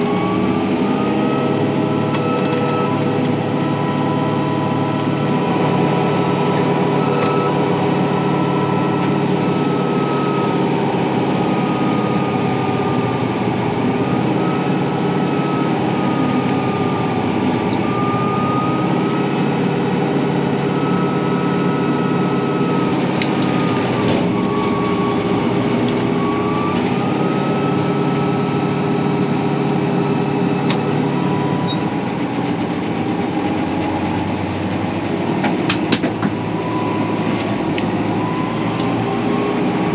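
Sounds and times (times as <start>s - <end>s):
saw whine sagging in pitch: 0.0s - 35.0s
tractor diesel engine running: 0.0s - 39.9s.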